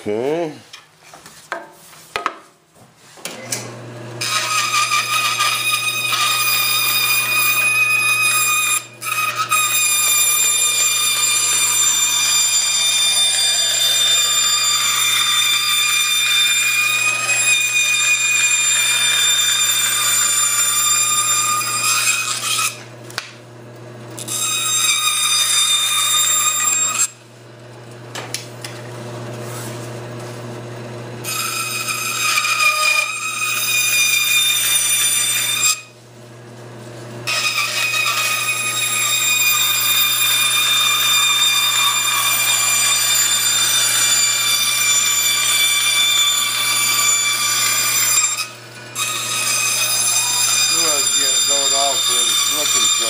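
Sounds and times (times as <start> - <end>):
power tool cutting wood: 3.3 - 27.2, 31.2 - 36.0, 36.8 - 53.0.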